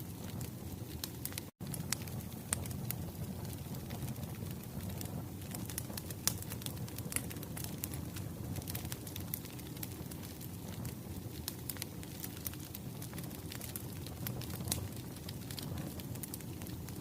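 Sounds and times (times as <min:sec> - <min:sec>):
fire popping and snapping: 0:00.0 - 0:17.0
wood fire rumbling: 0:00.0 - 0:17.0.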